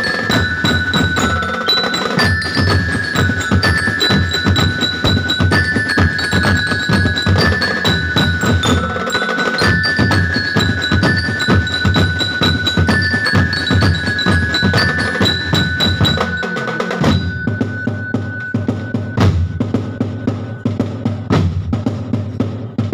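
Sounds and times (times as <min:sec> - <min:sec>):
bell-like melody: 0:00.0 - 0:21.3
bass drums and snare drums: 0:00.0 - 0:22.9.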